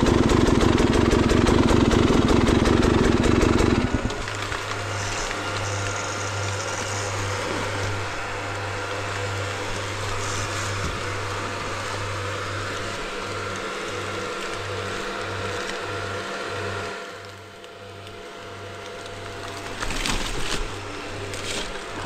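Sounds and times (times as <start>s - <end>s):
dirt bike engine running: 0.0s - 17.2s, 18.1s - 22.0s.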